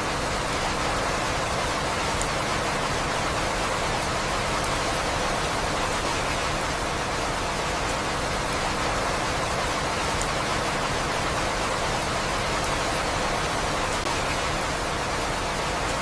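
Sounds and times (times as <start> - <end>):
steady falling rain hiss: 0.0 - 16.0.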